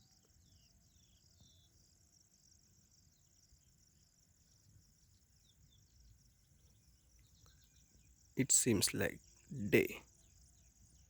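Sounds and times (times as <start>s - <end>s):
faint crickets chirring: 0.0s - 11.0s.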